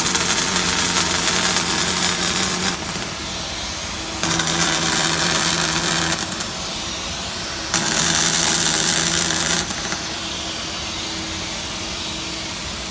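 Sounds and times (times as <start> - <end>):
welding arc hissing and crackling: 0.0 - 12.8.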